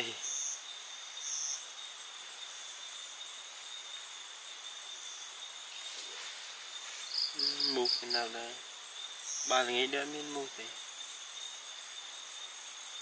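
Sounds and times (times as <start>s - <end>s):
insects pulsing chorus: 0.0s - 13.0s.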